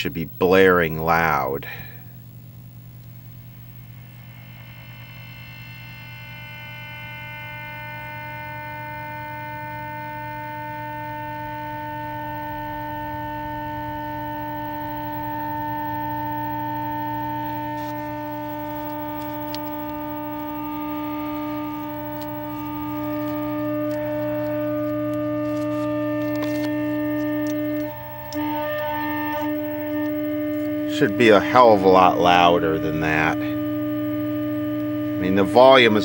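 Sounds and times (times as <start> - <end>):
buzzy speaker tone: 0.0 - 36.0
low hum: 0.0 - 36.0.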